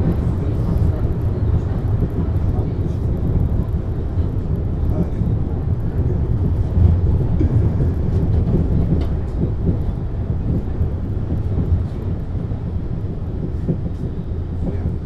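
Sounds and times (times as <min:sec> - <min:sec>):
railway car low rumble: 0:00.0 - 0:15.0.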